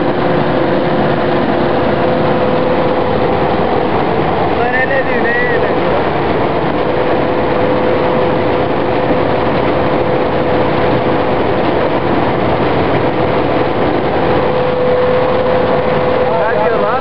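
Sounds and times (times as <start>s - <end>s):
combine harvester engine and machinery: 0.0s - 17.0s
steady machine whine: 0.0s - 17.0s.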